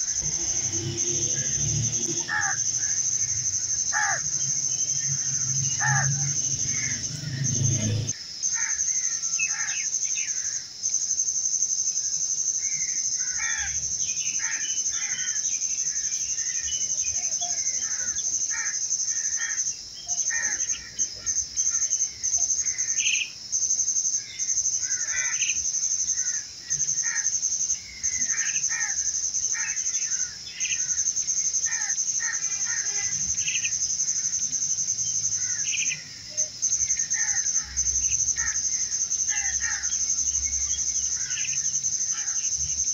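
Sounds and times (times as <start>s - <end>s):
high-pitched insect trill: 0.0s - 42.9s.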